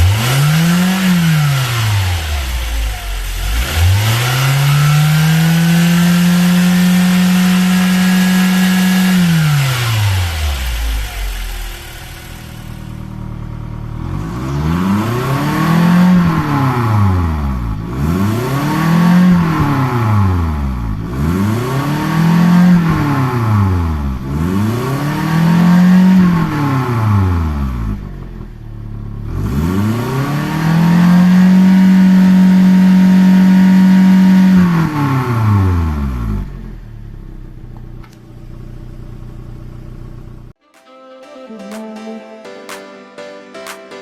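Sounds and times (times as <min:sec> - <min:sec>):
car engine revving: 0:00.0 - 0:37.7.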